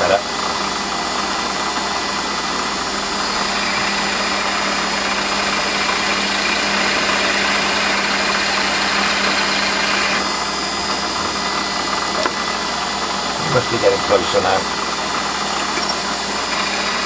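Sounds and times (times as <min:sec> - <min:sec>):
hiss of drill cutting: 0:00.0 - 0:17.0
metal lathe running: 0:00.0 - 0:17.0.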